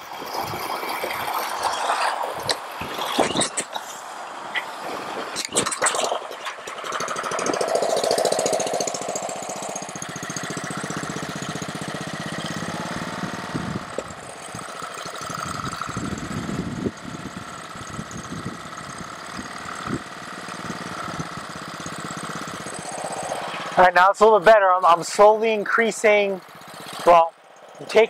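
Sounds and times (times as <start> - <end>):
small engine running unevenly: 0.0 - 28.0.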